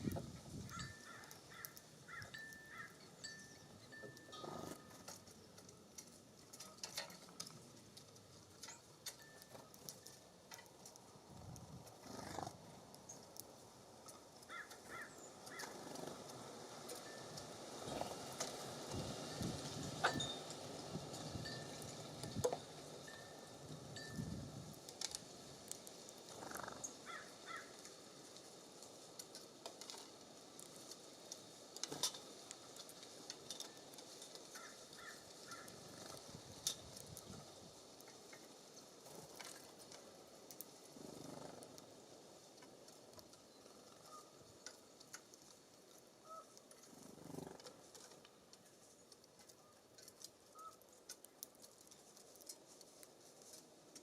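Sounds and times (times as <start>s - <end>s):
faint breeze rumble: 0.0s - 54.0s.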